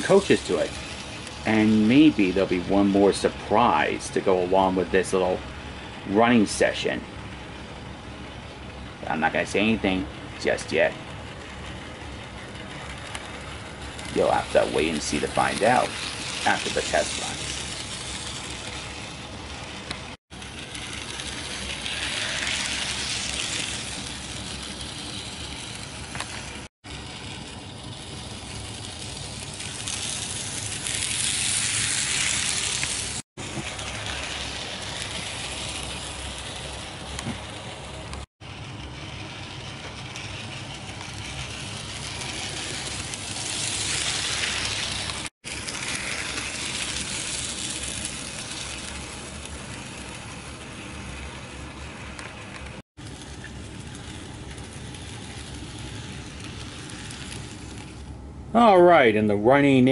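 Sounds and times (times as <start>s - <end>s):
model train motor whirring: 0.0s - 58.2s.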